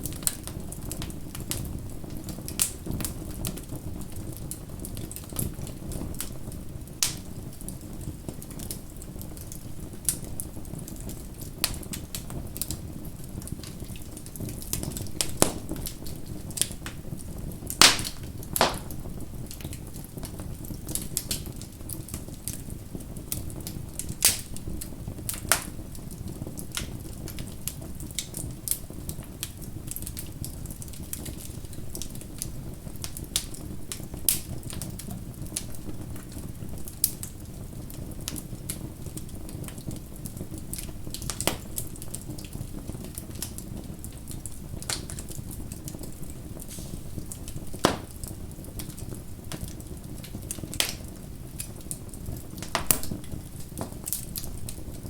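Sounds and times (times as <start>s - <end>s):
bonfire crackling: 0.0s - 55.0s.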